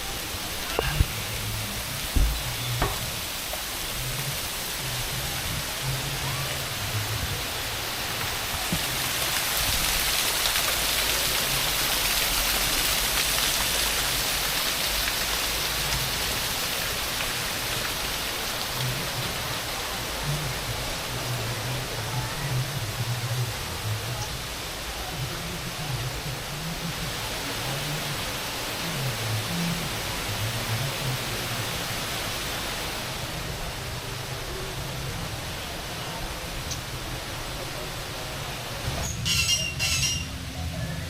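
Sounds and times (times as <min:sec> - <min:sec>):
falling water rushing: 0:00.0 - 0:41.0.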